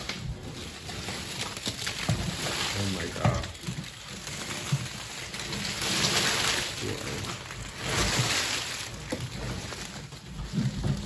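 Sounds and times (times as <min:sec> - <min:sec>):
matchbooks spilling from a tin: 0:00.0 - 0:10.2.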